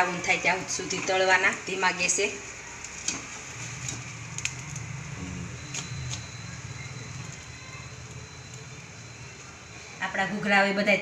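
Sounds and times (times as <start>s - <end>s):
oil sizzling: 0.0s - 10.5s
low steady hum: 0.0s - 11.0s.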